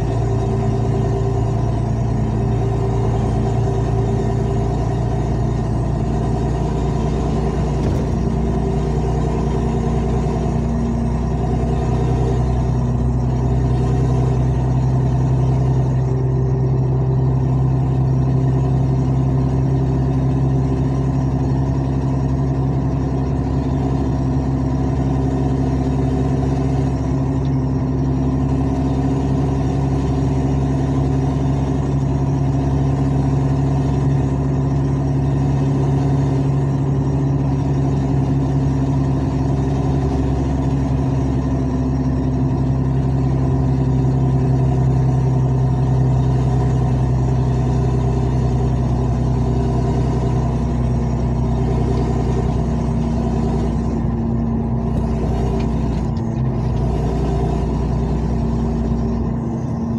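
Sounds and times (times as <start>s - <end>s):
diesel engine with loud exhaust: 0.0s - 59.9s.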